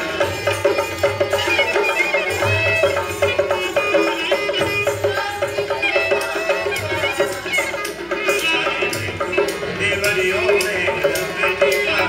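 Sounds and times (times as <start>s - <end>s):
hand drums: 0.0s - 12.0s.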